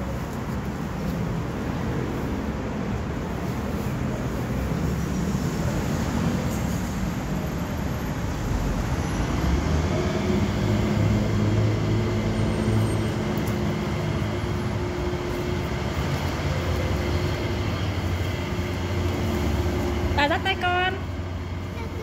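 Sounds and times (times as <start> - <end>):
motor traffic rumble: 0.0 - 22.0.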